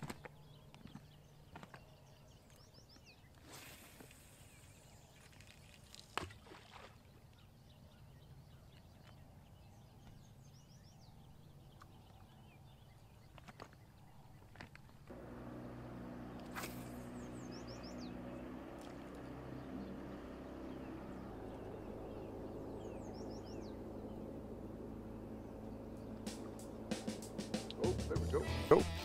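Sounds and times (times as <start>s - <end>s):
faint birdsong chirping: 0.0s - 29.0s.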